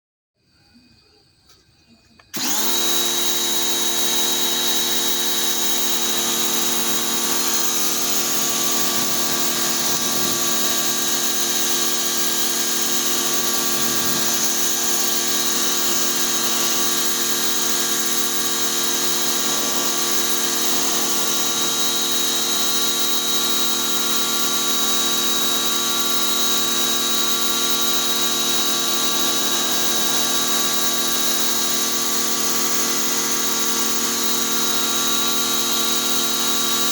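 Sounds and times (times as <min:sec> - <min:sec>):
pressure washer running: 0:02.3 - 0:36.9.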